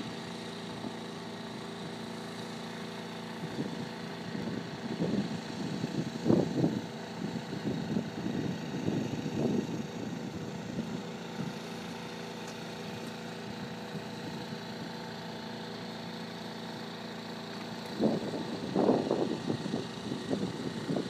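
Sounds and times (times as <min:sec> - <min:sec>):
water pump engine humming: 0:00.0 - 0:21.0.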